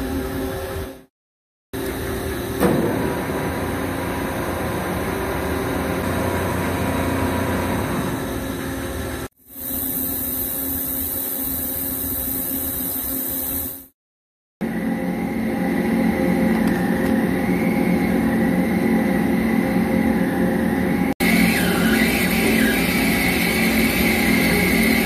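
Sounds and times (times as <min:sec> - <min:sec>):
machine hum with steady tones: 0:01.8 - 0:13.9, 0:14.6 - 0:25.0.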